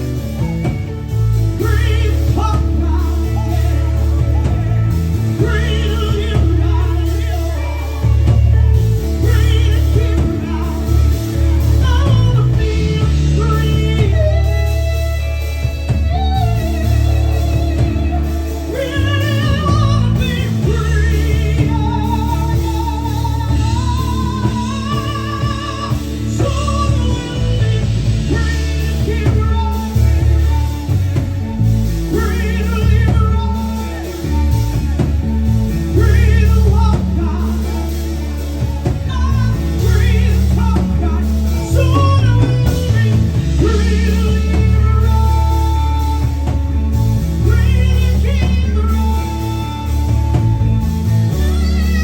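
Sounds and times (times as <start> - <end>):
live band playing soft rock: 0.0 - 52.0.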